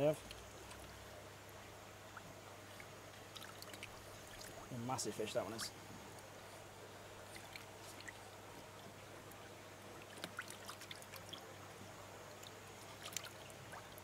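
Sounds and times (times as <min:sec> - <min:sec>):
small water splashes and drips: 0:00.0 - 0:01.2, 0:02.0 - 0:06.3, 0:07.0 - 0:14.0.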